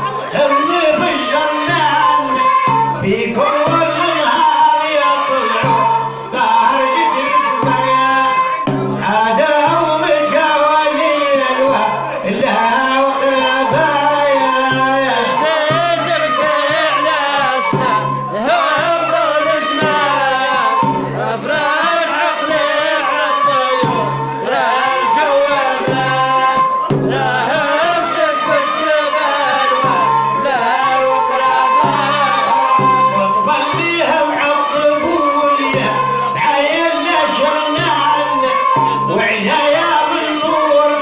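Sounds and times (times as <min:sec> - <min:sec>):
hand drum rhythm: 0:00.0 - 0:41.0.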